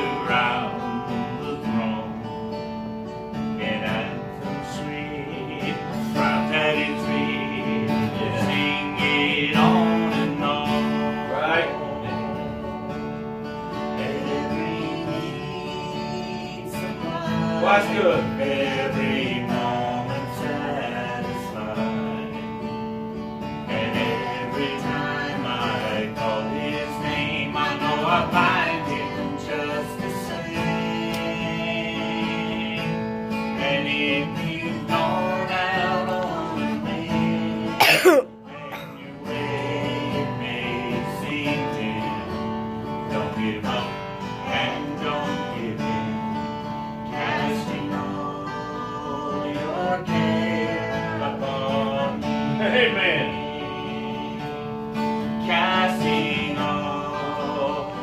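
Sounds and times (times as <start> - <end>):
man and woman singing duet: 0.0 - 2.5, 3.6 - 22.8, 23.5 - 58.0
strummed acoustic guitar: 0.0 - 58.0.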